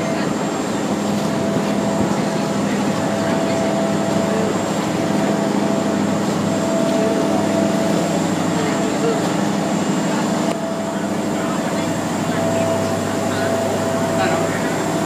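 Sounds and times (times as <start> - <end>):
ferry engine humming: 0.0 - 15.0.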